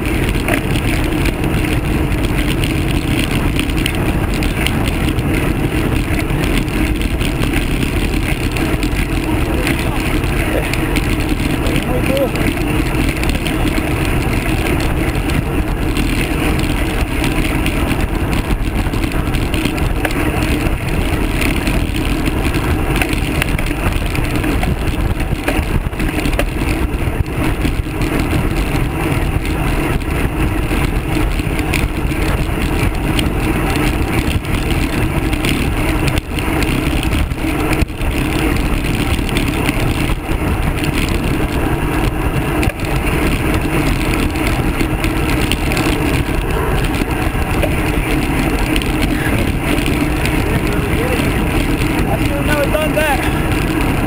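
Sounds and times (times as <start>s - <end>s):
tyres rolling on rough pavement: 0.0s - 54.0s
wind rushing over microphone: 0.0s - 54.0s.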